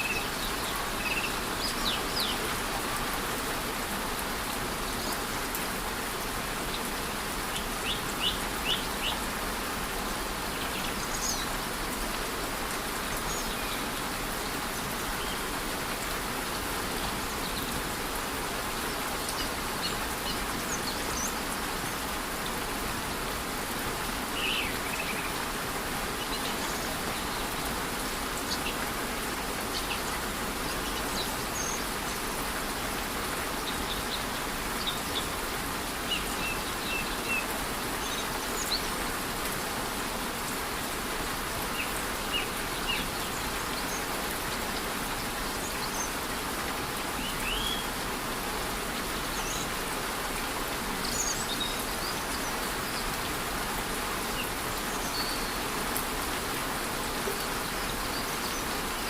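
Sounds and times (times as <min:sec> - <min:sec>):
light rain: 0:00.0 - 0:59.0
waterfall rushing: 0:00.0 - 0:59.0.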